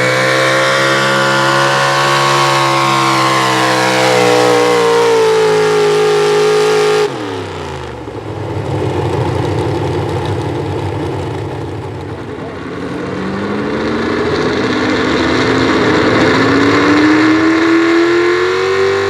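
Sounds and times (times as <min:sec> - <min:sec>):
truck engine screaming at high revs: 0:00.0 - 0:19.0.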